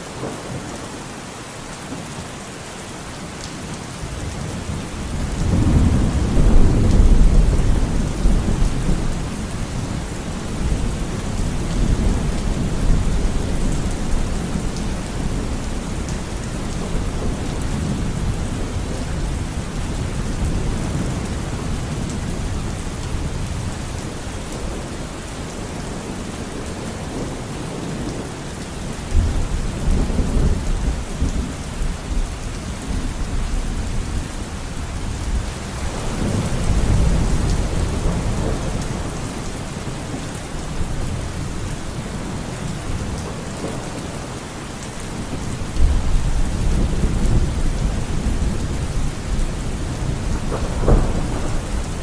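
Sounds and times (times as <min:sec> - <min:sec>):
rain falling: 0:00.0 - 0:52.0
low rolling thunder: 0:04.2 - 0:24.9, 0:28.8 - 0:44.4, 0:45.0 - 0:52.0.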